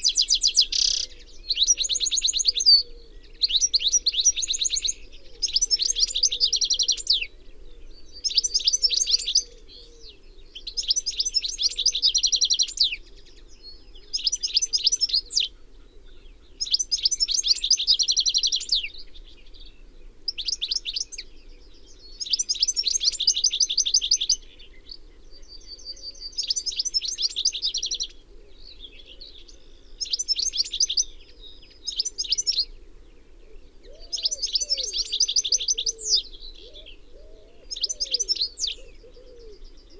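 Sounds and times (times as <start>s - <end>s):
goldfinch twittering song: 0.0s - 7.3s, 7.9s - 32.8s, 33.6s - 39.9s.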